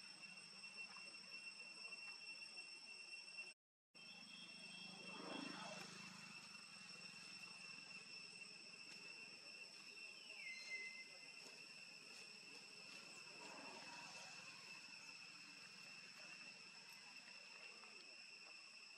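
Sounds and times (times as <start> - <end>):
faint downward-sliding whistle: 0.0 - 18.9
insect drone: 0.0 - 18.9.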